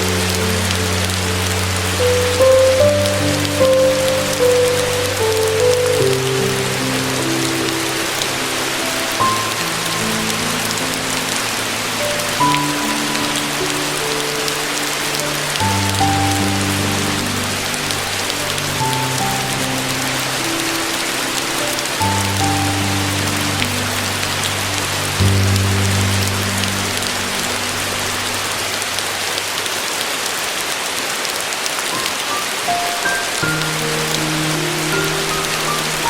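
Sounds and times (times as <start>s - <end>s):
rain hiss: 0.0s - 36.0s
soft piano notes: 0.0s - 36.0s.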